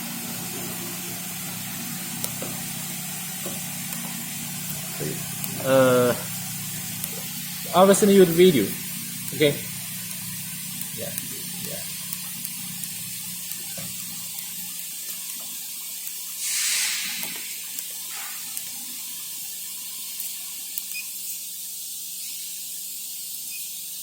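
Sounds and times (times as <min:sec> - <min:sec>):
gas torch hissing: 0:00.0 - 0:24.0.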